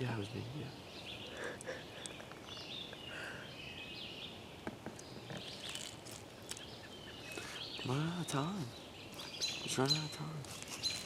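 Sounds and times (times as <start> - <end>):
faint outdoor hush: 0.0 - 11.0
songbirds chirping and singing: 0.0 - 11.0.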